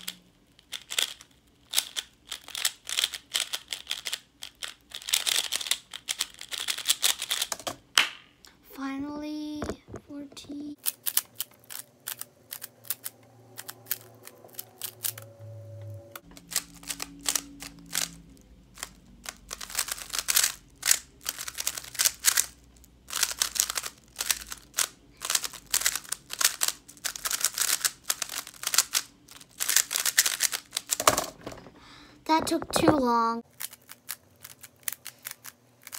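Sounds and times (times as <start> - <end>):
puzzle cube plastic clicking: 0.0 - 7.8, 10.8 - 15.3, 16.4 - 18.2, 18.8 - 31.6, 32.4 - 35.9.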